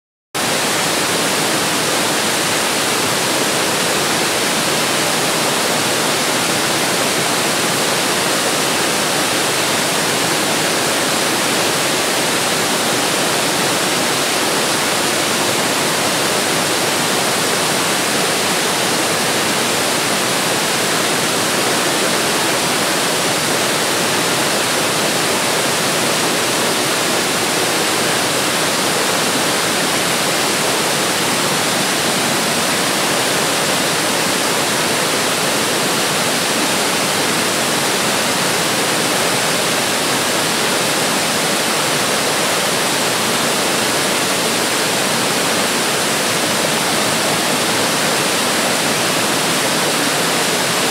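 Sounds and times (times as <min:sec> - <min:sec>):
waterfall rushing: 0:00.4 - 0:50.9.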